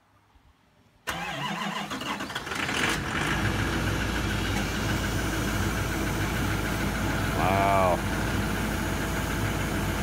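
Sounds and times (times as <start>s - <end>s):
diesel engine idling: 1.1s - 10.0s.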